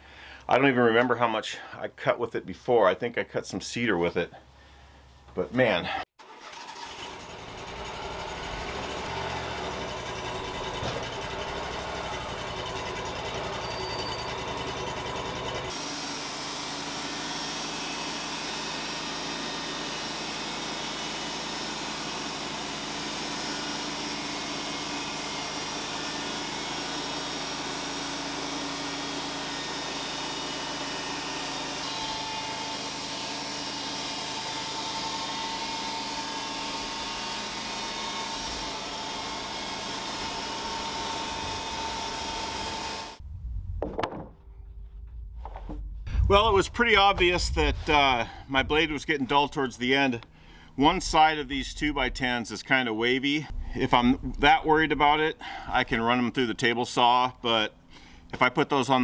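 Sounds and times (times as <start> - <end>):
bandsaw mill sawing log: 6.2 - 43.2, 45.6 - 59.0.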